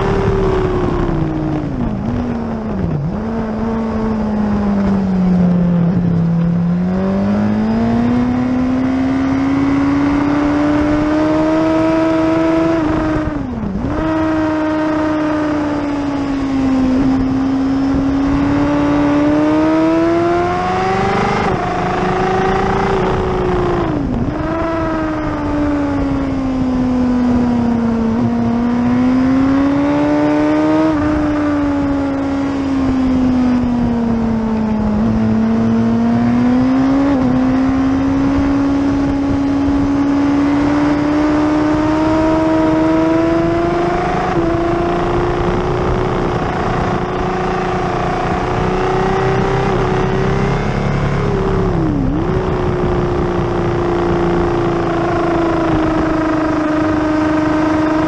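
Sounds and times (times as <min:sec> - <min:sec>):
motorcycle engine running hard: 0:00.0 - 0:58.0
wind rush: 0:00.0 - 0:58.0.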